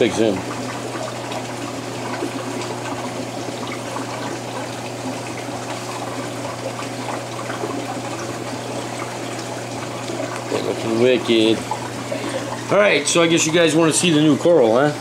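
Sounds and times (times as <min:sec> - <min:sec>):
aquarium water running: 0:00.0 - 0:15.0.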